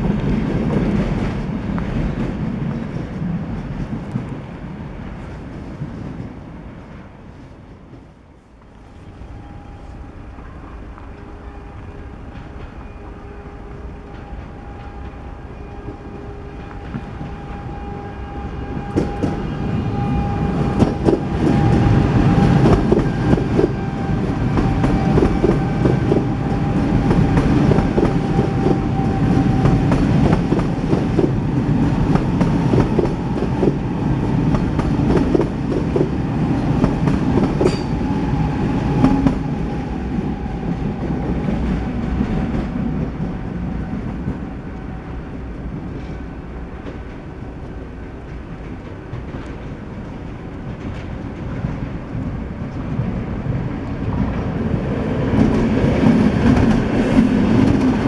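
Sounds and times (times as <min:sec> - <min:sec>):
train approaching with steady tone: 0:00.0 - 0:58.0
train wheels clattering on rails: 0:00.0 - 0:58.0.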